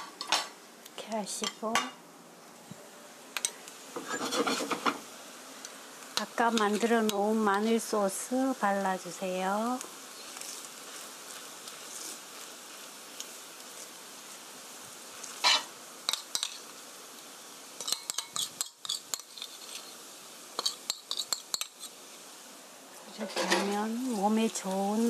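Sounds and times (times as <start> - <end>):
pancake sizzling in a pan: 0.0 - 25.0.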